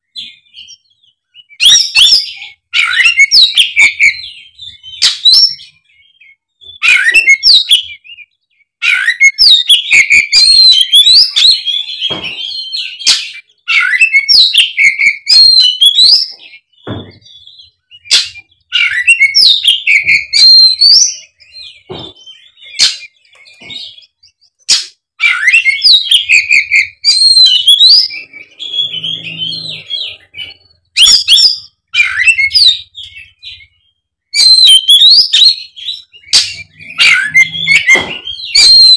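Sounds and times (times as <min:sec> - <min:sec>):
songbird singing whistled phrases: 0:00.1 - 0:38.9.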